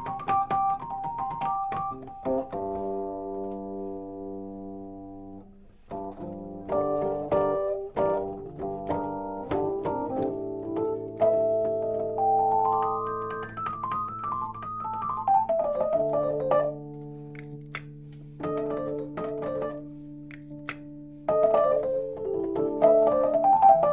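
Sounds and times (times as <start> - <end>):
keyboard chords: 0.0 - 23.9
keyboard melody: 0.0 - 23.9.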